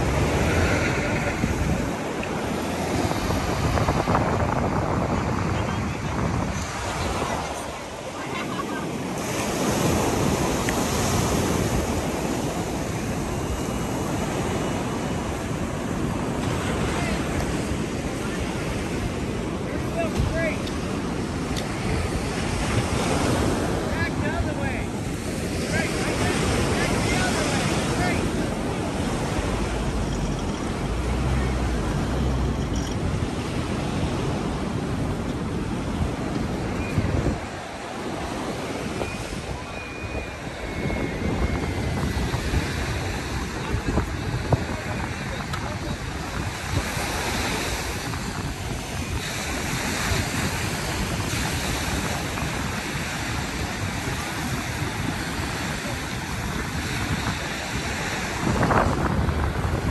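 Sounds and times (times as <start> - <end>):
ocean surf: 0.0 - 59.9
wind buffeting microphone: 0.0 - 59.9.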